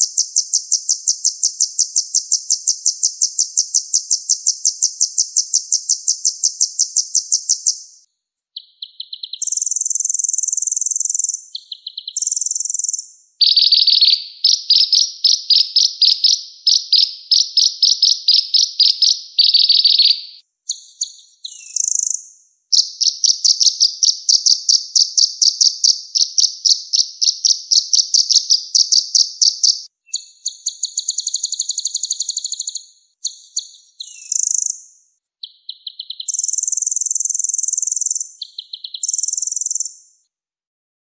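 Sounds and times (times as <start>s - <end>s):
sunbird singing rapid trills: 0.0s - 40.2s.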